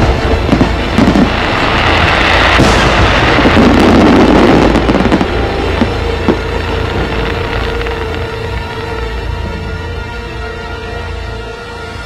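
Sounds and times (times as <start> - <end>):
fireworks booming and cracking: 0.0 - 9.8.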